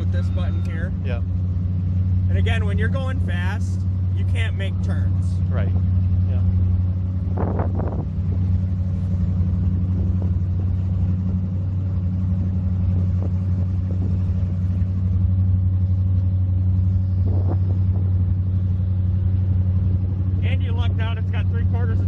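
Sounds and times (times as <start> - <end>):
powerboat engines idling: 0.0 - 22.0.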